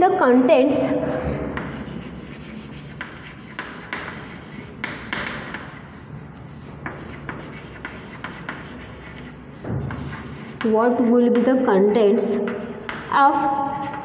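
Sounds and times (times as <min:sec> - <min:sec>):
chalk scratching on chalkboard: 0:01.0 - 0:14.0.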